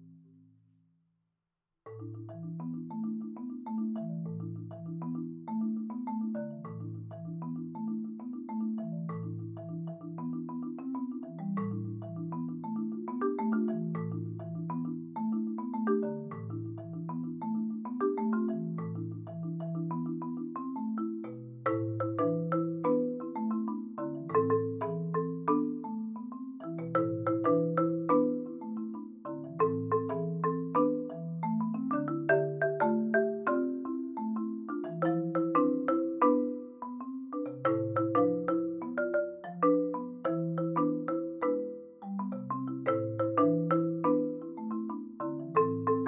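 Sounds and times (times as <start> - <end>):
marimba music: 1.9 - 46.0.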